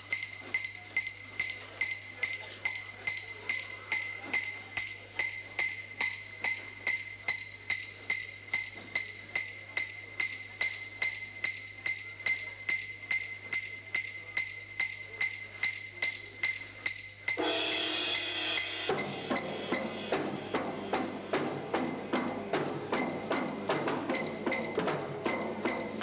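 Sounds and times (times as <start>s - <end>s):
struck percussion clinking: 0.0s - 26.0s.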